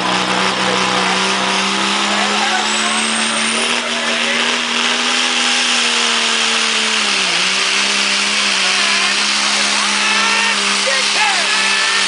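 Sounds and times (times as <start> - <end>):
truck engine revving under load: 0.0 - 12.0.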